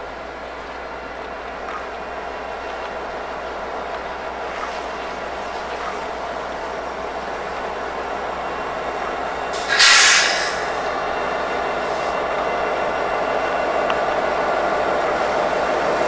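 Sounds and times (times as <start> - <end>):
train running: 0.0 - 16.0.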